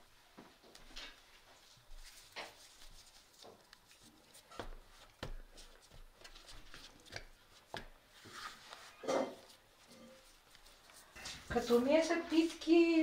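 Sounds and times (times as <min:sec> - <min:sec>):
hands kneading bread dough: 0:00.1 - 0:13.0.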